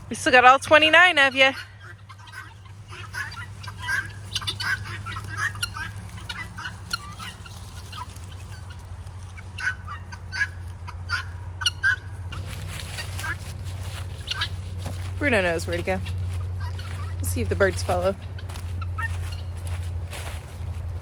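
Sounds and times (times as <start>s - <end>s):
guinea fowl calling: 0.0s - 20.7s
steady low hum: 0.0s - 21.0s.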